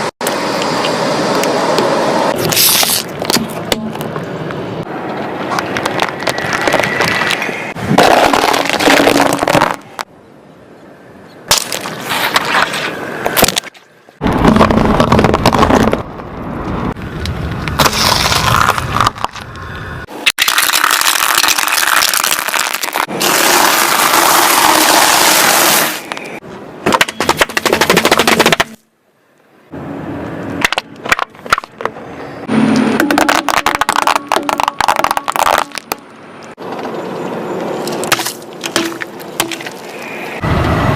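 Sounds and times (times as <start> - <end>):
objects crunching under car tyres: 2.3 - 10.1, 11.5 - 28.8, 30.6 - 32.0, 32.7 - 37.0, 37.6 - 40.4.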